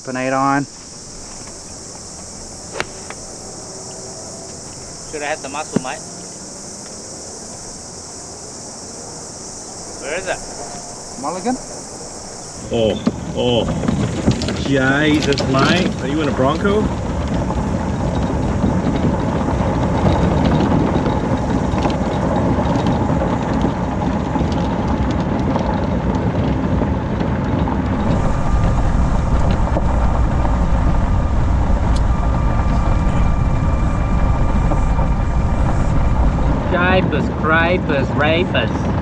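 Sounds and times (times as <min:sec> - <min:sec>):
golf cart driving on gravel: 0:00.0 - 0:39.0
steady whine: 0:00.0 - 0:39.0.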